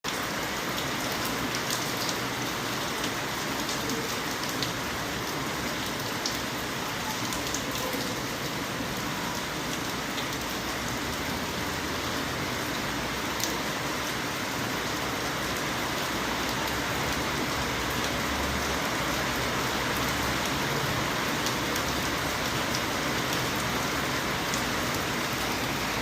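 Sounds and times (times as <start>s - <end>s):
rain pattering on a surface: 0.0s - 26.0s.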